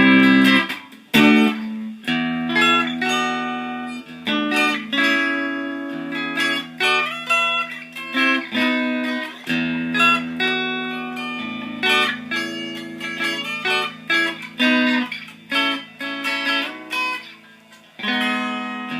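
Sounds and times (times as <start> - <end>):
fingerpicked cigar box guitar: 0.0 - 18.9.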